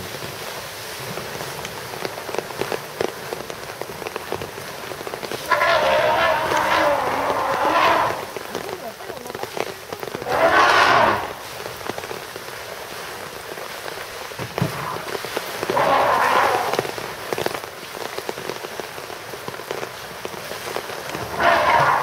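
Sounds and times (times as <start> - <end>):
elephant splashing in water: 0.0 - 22.0
steady rain: 0.0 - 22.0.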